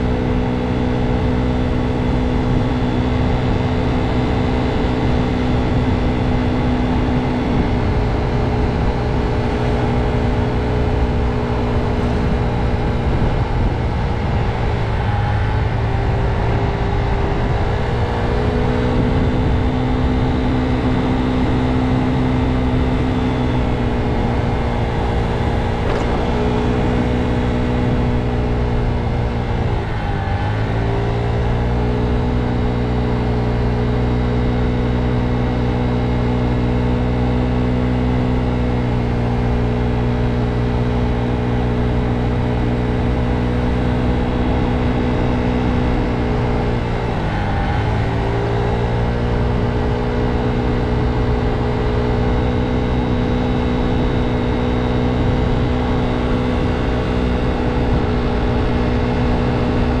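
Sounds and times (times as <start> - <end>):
motor scooter engine running: 0.0 - 60.0.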